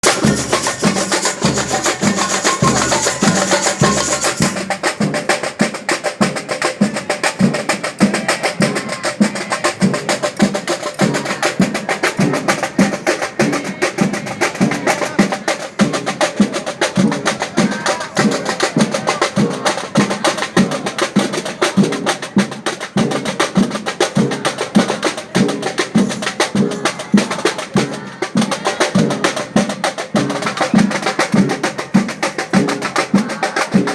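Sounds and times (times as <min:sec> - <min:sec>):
drums keeping steady beat: 0:00.0 - 0:33.9
percussion band playing: 0:00.0 - 0:33.9.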